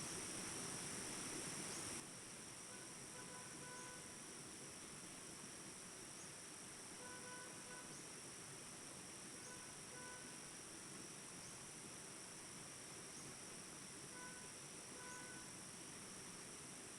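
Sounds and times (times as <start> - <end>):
crickets chirping: 0.0 - 16.9.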